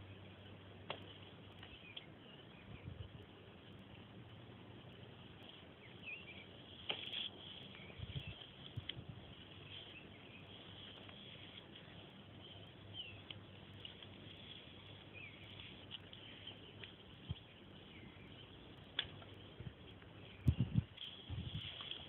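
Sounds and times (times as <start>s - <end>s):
faint birds chirping: 0.0s - 22.0s
steady outdoor hiss: 0.0s - 22.0s.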